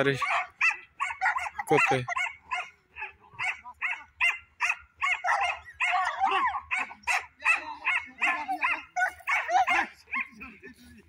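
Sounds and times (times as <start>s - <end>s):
dogs yelping and barking: 0.0s - 10.8s.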